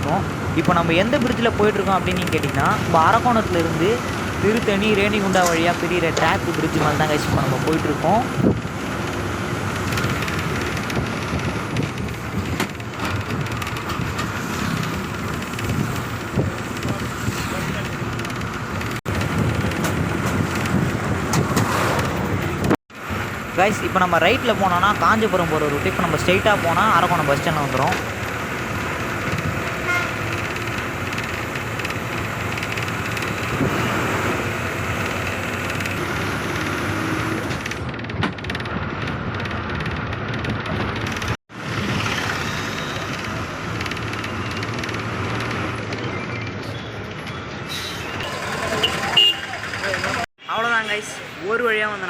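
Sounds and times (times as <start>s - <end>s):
bus body rattling: 0.0s - 50.2s
bus engine and road rumble: 0.0s - 50.3s.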